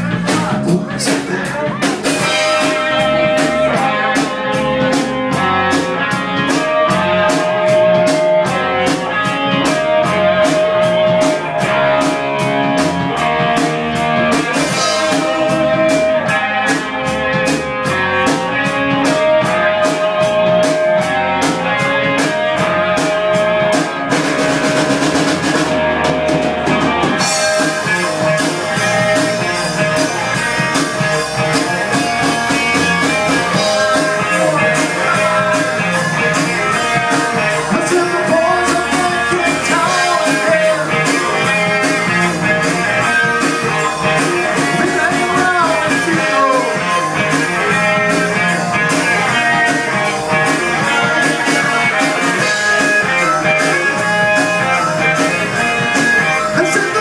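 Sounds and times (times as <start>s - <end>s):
bass guitar: 0.0s - 57.0s
drum kit: 0.0s - 57.0s
electric guitar lead lines: 0.0s - 57.0s.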